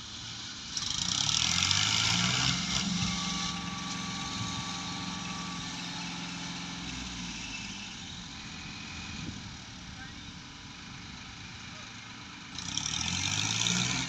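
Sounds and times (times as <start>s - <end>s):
diesel tractor engines running: 0.0s - 14.0s.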